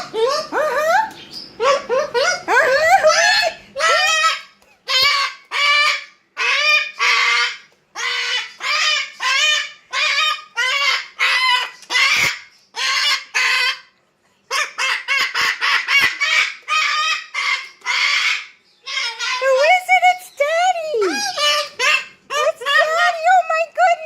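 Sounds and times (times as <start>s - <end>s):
parrot squawking: 0.0s - 24.0s.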